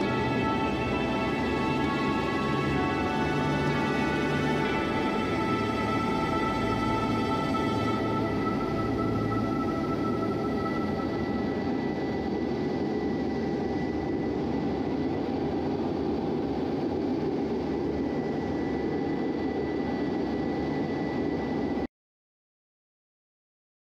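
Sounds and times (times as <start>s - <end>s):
jet engine and airflow noise: 0.0s - 21.9s
thin high whine: 0.0s - 21.9s.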